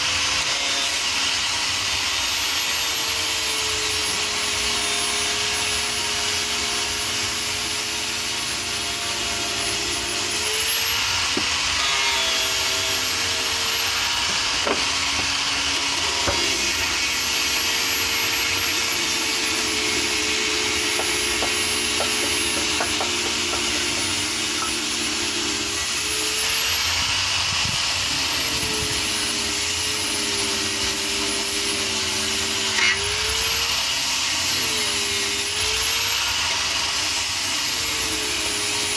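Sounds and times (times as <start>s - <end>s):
power tool grinding wood: 0.0s - 38.9s.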